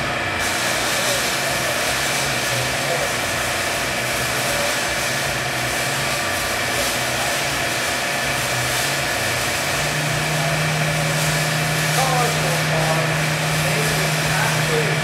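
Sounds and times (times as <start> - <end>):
testing rig machine hum: 0.0 - 15.0.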